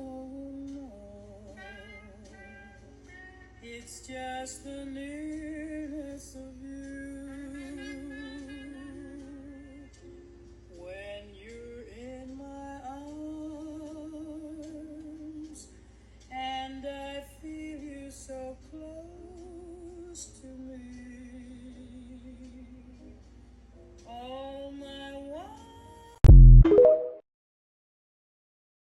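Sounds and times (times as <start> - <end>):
woman singing jazz ballad: 0.0 - 10.0, 10.7 - 15.7, 16.3 - 23.0, 24.1 - 26.2.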